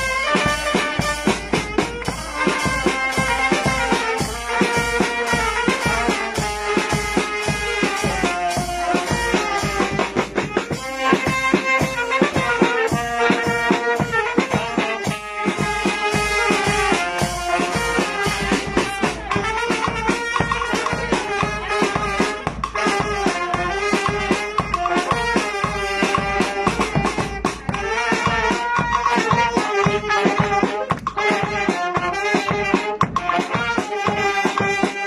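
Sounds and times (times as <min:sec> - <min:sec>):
brass band playing dance tune: 0:00.0 - 0:35.0
steady drum beat: 0:00.0 - 0:35.0.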